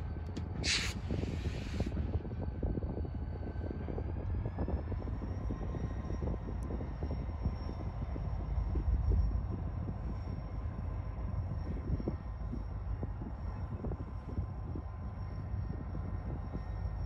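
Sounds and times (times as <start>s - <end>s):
diesel locomotive rumbling: 0.0s - 17.0s
thin high whine: 0.0s - 17.0s.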